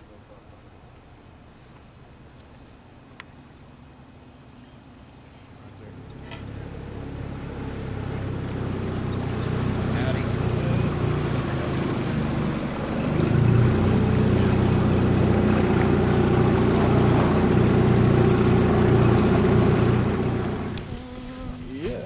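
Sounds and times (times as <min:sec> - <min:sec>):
outboard motor running: 0:04.3 - 0:22.0.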